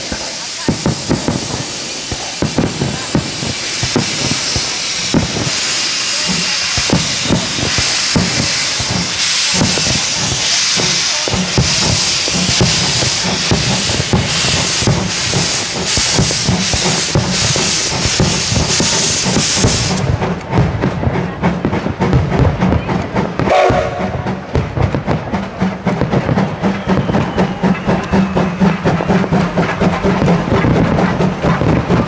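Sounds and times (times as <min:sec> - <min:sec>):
fireworks booming: 0:00.0 - 0:32.0
steam locomotive hissing: 0:00.0 - 0:32.0.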